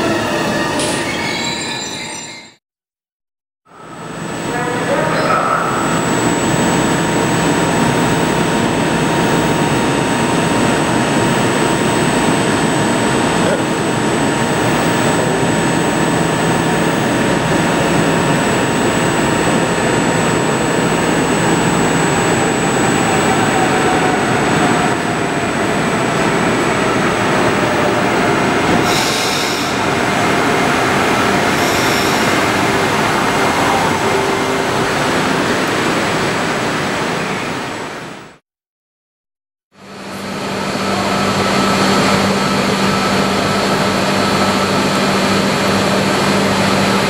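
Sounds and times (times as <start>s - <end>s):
train rumbling into station: 0.0s - 2.6s, 3.7s - 38.4s, 39.8s - 47.0s.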